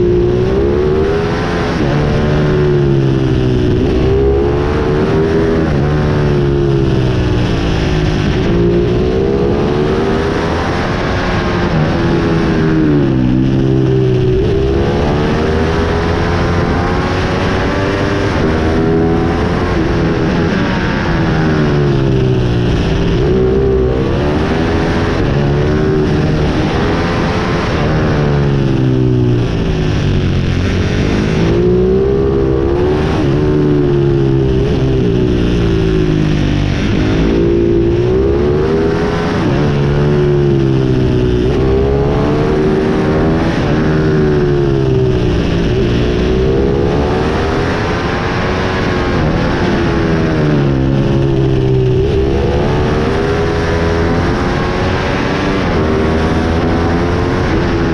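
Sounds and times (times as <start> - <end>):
motorbike engine revving: 0.0 - 57.9.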